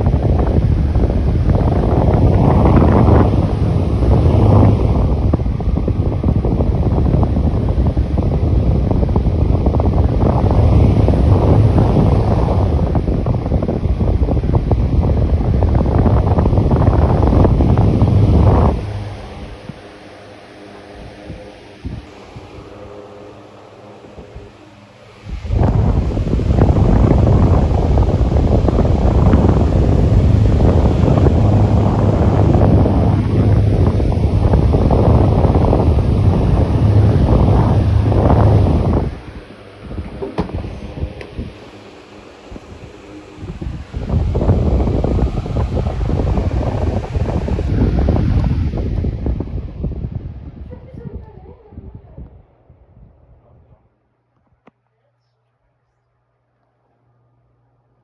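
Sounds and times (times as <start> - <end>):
electric fan running: 0.0 - 53.8
wind noise on microphone: 0.0 - 53.9.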